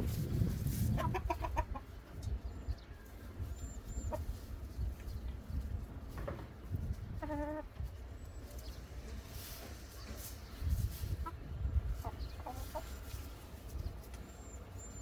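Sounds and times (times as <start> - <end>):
chickens calling: 0.0 - 15.0
low outdoor rumble: 0.0 - 15.0.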